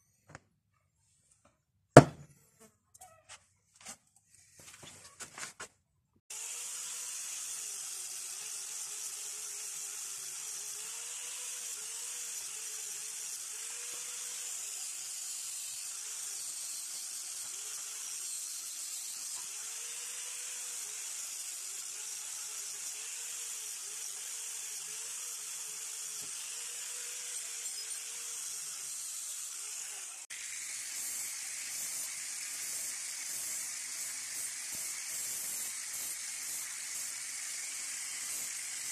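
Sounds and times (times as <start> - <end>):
angle grinder scouring metal: 6.3 - 38.9.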